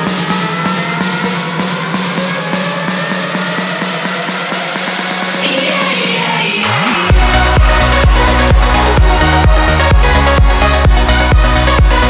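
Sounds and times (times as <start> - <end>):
music with steady kick drum: 0.0 - 12.0.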